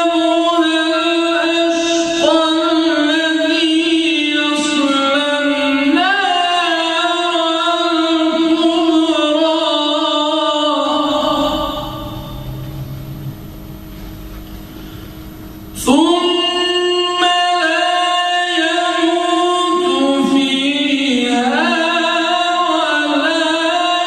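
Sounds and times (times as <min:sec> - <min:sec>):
man chanting: 0:00.0 - 0:13.3, 0:15.8 - 0:24.0.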